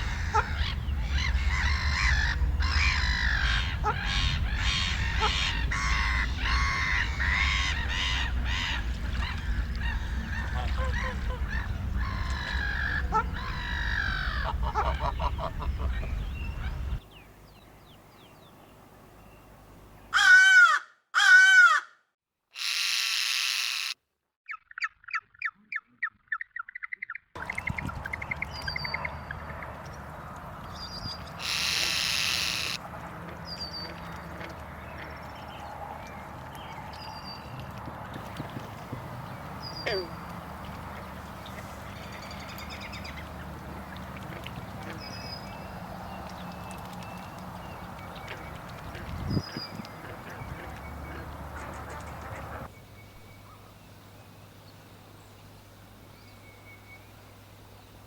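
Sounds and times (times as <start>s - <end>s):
birds calling: 0.0s - 21.8s, 22.6s - 58.0s.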